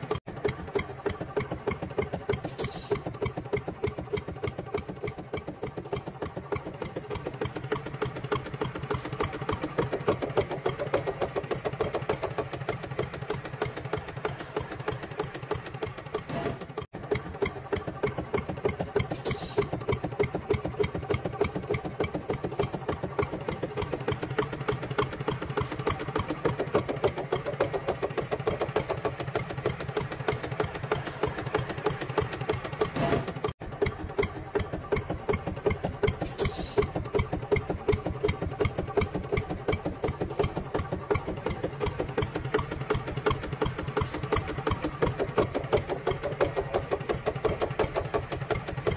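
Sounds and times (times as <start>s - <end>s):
small engine idling: 0.0s - 48.9s.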